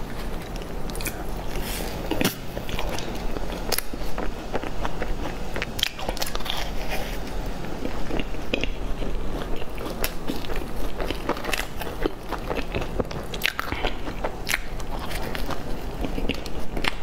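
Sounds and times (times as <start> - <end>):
person chewing crunchy pastry: 0.0 - 17.0
steady low hum: 0.0 - 17.0.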